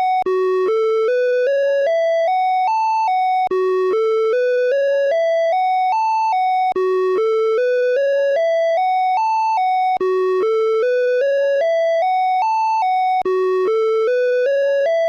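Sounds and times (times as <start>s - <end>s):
electronic alarm melody: 0.0s - 15.0s.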